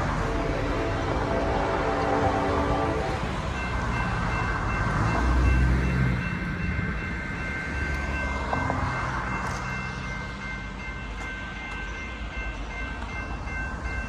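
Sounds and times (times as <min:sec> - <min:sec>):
diesel freight train rumble: 0:00.0 - 0:14.0.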